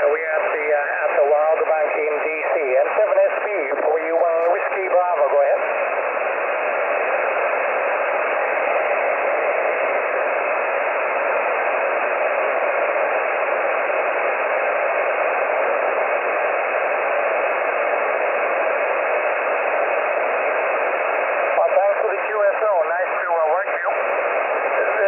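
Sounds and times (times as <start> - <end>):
radio receiver noise hiss: 0.0 - 25.0.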